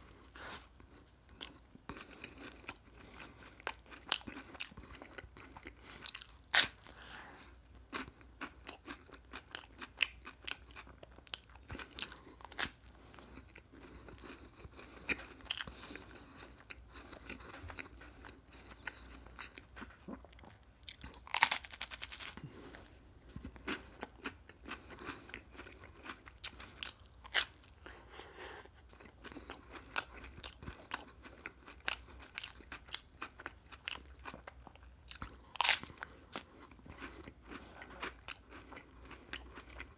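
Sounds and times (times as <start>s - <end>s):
crunching and chewing sandwich: 0.0s - 39.9s.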